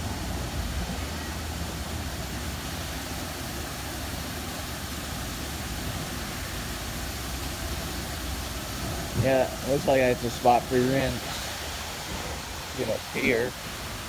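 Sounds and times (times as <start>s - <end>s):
water spray hissing: 0.0s - 14.0s.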